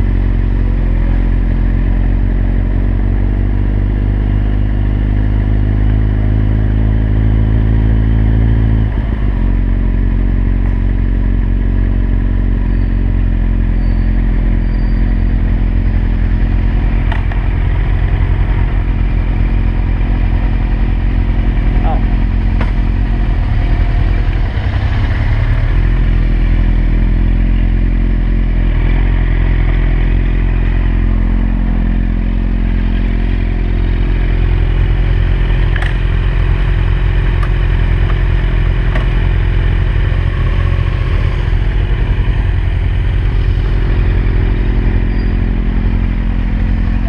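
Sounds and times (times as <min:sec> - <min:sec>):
motorcycle engines idling: 0:08.8 - 0:47.0.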